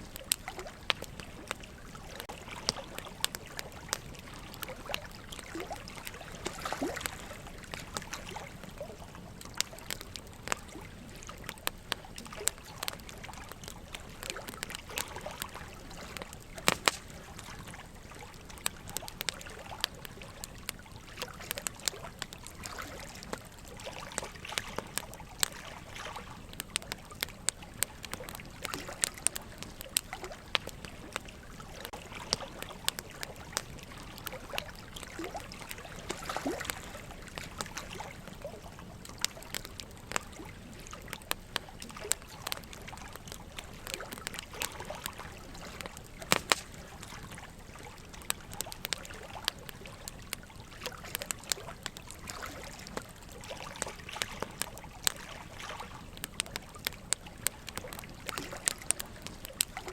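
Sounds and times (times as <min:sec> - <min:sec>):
trickling water: 0:00.0 - 0:59.9
wood fire crackling and popping: 0:00.0 - 0:59.9.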